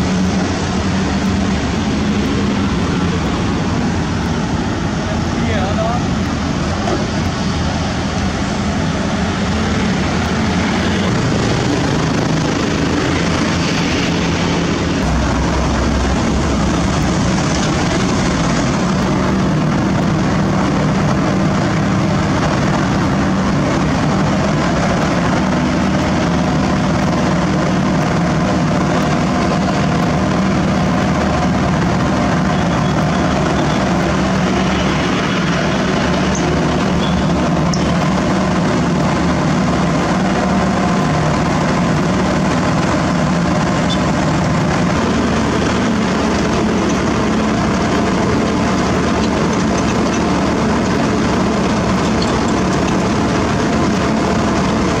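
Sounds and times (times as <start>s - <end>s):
milling machine running: 6.0s - 55.0s.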